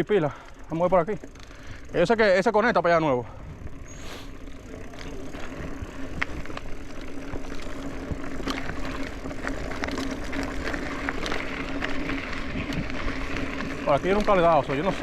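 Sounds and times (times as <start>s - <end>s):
bike rattling clicks: 0.0s - 15.0s
bike tyres on dirt: 0.0s - 15.0s
steady hum: 0.4s - 15.0s.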